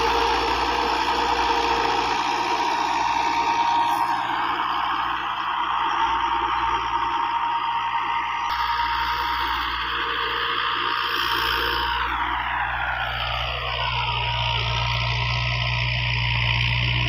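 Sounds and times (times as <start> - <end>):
engine whine falling in pitch: 0.0 - 17.0
tractor engine running: 0.0 - 17.0.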